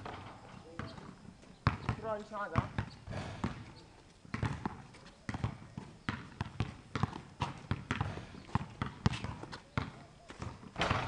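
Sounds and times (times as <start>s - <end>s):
basketball bouncing on court: 0.0s - 11.0s.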